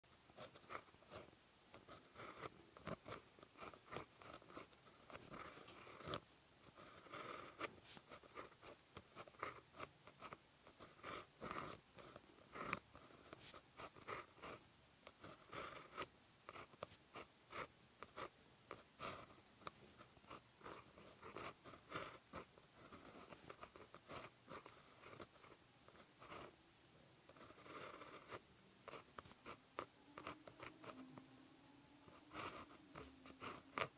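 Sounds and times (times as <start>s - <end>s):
pen scratching on paper: 0.3s - 26.6s, 27.3s - 31.3s, 32.0s - 33.9s.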